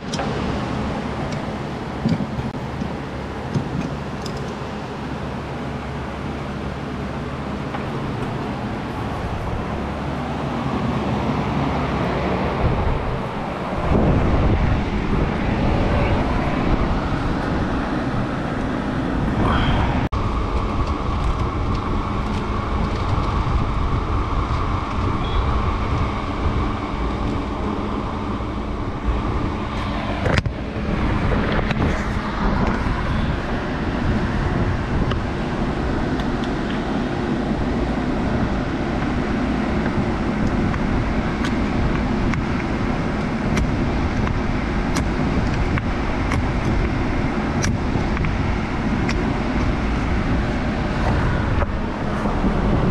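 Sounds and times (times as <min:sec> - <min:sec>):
drum fan whooshing hum: 0:00.0 - 0:52.9.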